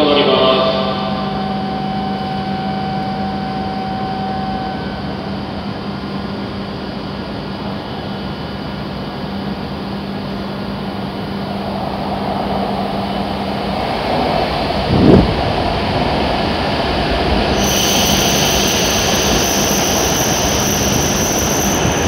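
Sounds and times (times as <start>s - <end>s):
low droning hum: 0.0s - 22.0s
train approaching rush: 0.0s - 22.0s.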